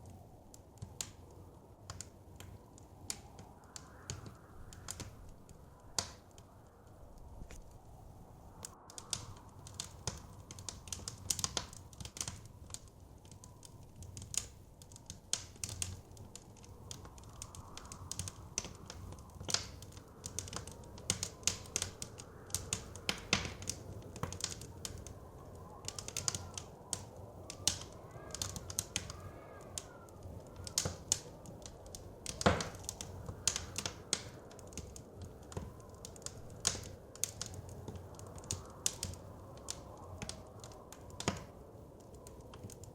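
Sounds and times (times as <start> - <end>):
blizzard wind rushing: 0.0 - 42.9
wood fire crackling and popping: 0.0 - 42.9.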